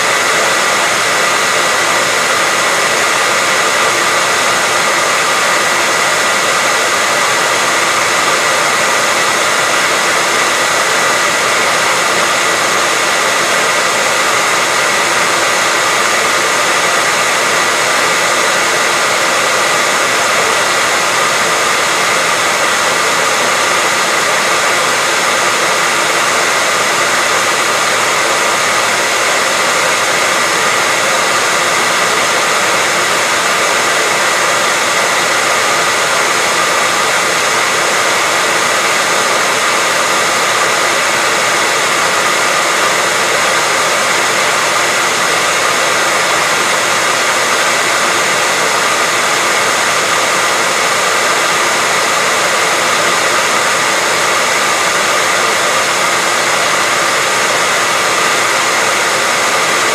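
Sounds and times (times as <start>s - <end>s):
hairdryer blowing air: 0.0s - 59.9s.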